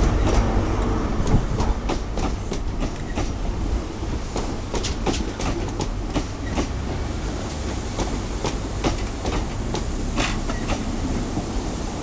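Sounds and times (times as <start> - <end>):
wheels clicking over rail joints: 0.0 - 11.6
train wheels rumbling on rails: 0.0 - 12.0.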